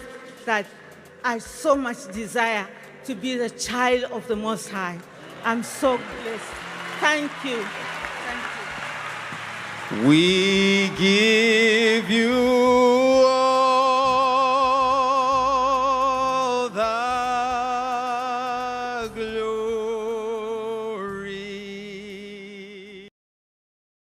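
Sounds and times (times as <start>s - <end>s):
music with long vibrato notes: 0.0s - 23.0s.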